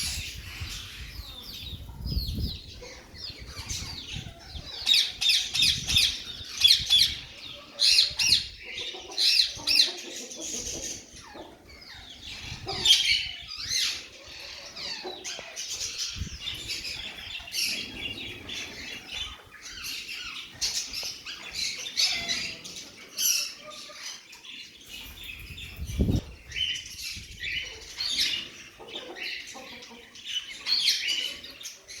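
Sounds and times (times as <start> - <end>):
parakeets screeching and chattering: 0.0 - 32.0.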